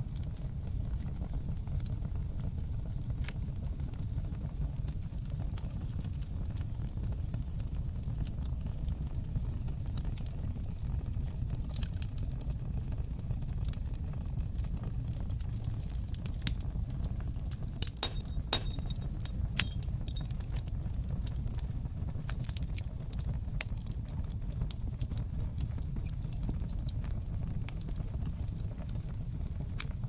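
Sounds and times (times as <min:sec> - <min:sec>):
wood fire burning: 0:00.0 - 0:30.0.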